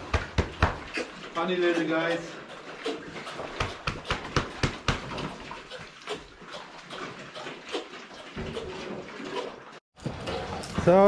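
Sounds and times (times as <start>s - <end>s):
pigs chewing: 0.0s - 11.0s
pigs snuffling: 0.0s - 11.0s
wet slurping: 0.8s - 9.7s.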